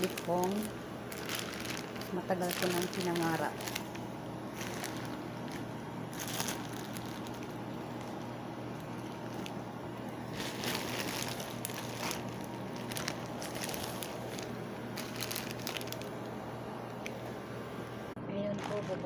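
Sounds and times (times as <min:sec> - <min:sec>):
plastic bag rustling: 0:00.0 - 0:17.4, 0:18.4 - 0:19.0
steady low hum: 0:00.0 - 0:19.0.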